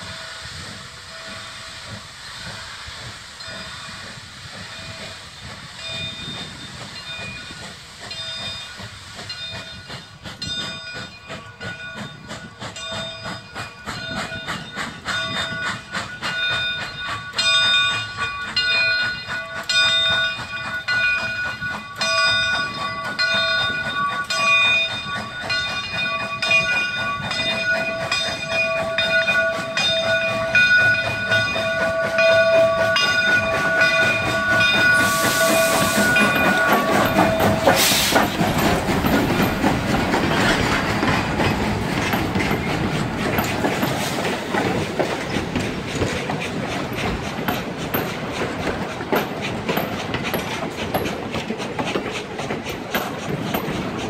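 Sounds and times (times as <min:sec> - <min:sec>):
steam hissing from cylinder cocks: 0:00.0 - 0:54.0
steam locomotive chuffing beats: 0:00.0 - 0:54.0.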